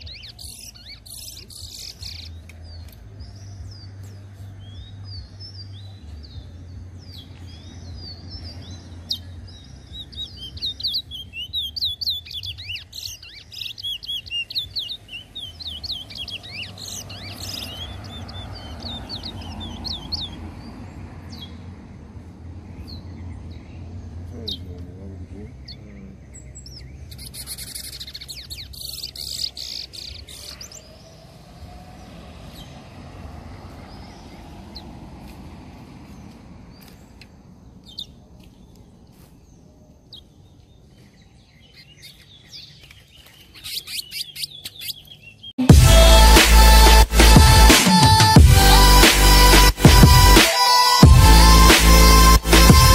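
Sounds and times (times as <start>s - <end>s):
finch singing chirping song: 0.0s - 35.4s, 36.0s - 47.6s.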